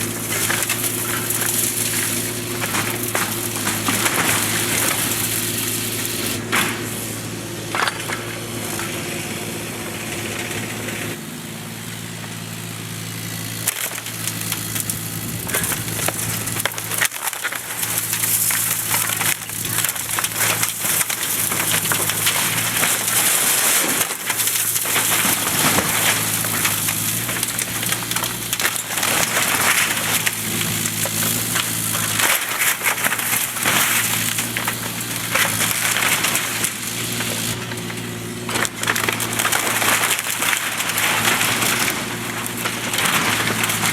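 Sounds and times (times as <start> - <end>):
excavator diesel engine: 0.0 - 43.9
wood splintering and crunching: 0.0 - 43.9.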